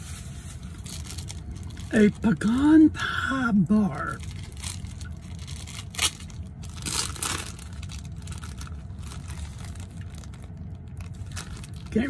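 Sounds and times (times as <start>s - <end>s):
plastic wrapping crinkling: 0.0s - 2.6s, 4.1s - 12.0s
steady low hum: 0.0s - 12.0s.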